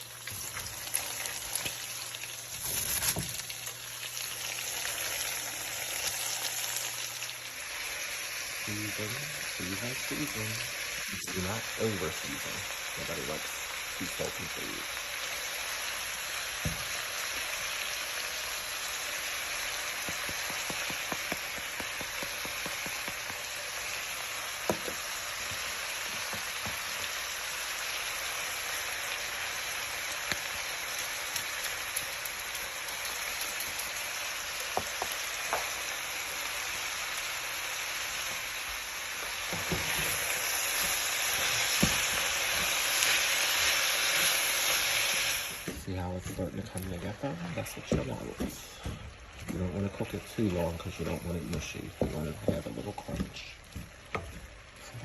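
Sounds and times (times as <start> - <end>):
vegetables sizzling in a pan: 0.0 - 55.0.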